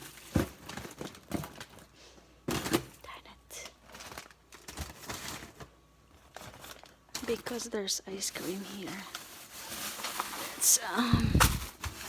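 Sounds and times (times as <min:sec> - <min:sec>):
frozen food packages rustling: 0:00.0 - 0:12.0.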